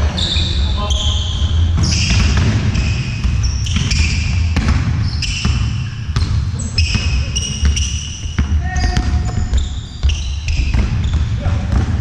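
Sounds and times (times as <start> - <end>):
shoes squeaking on floor: 0.0 - 11.8
ball bouncing: 1.7 - 12.0.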